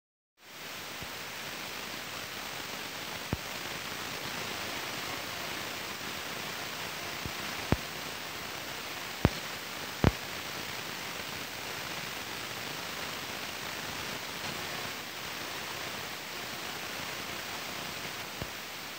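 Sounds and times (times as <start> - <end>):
steady outdoor hiss: 0.4 - 18.9.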